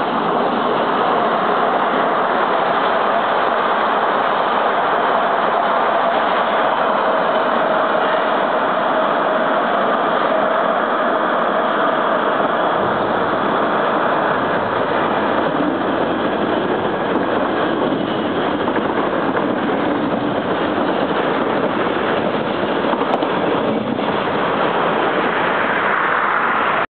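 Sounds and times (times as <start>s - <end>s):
faint whine: 0.0s - 26.9s
train rumbling past: 0.0s - 26.9s.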